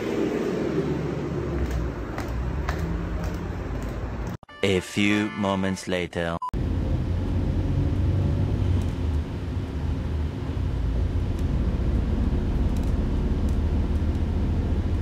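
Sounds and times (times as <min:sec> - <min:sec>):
bus engine and road noise: 0:00.0 - 0:04.4, 0:06.6 - 0:15.0.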